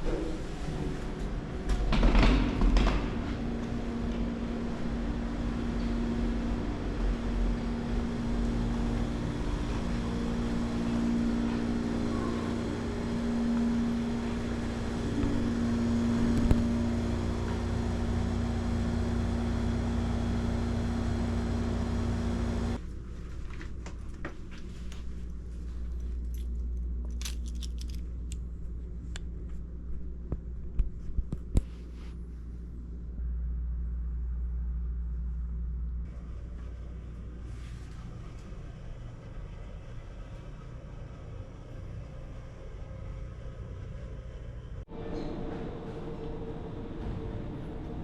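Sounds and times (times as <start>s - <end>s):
steady mechanical hum: 0.0s - 48.0s.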